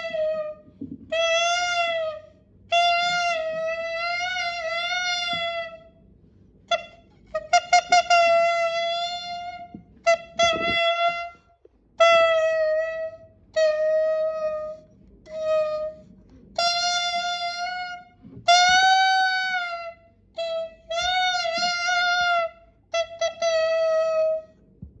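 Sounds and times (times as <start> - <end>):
clarinet imitating crying: 0.0 - 5.9, 6.7 - 24.6.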